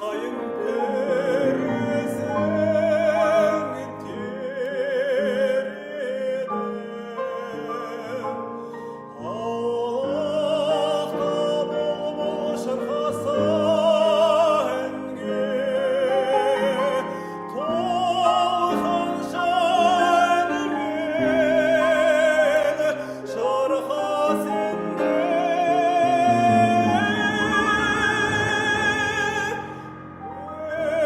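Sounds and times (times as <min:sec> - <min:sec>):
operatic voice singing: 0:00.0 - 0:31.0
piano: 0:00.0 - 0:31.0.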